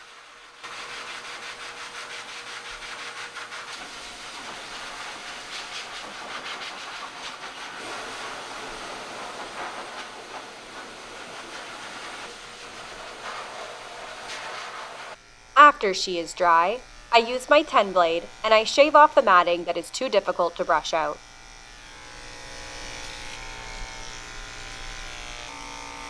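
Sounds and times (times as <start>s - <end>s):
pet blow dryer blowing air: 0.0s - 26.0s.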